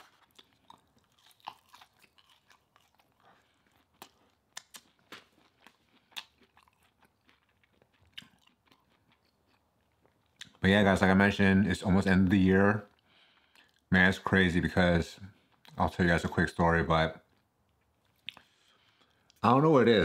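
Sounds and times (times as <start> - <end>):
chewing with soft crunches: 0.0 - 11.5, 12.1 - 19.5.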